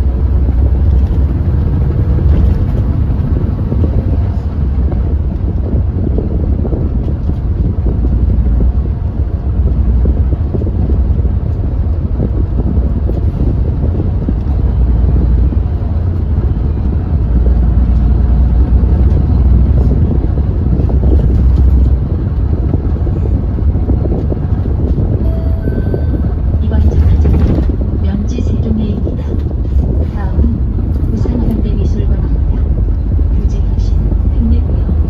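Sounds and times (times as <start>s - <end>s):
bus engine running: 0.0s - 35.0s
wind noise on microphone: 0.0s - 35.0s.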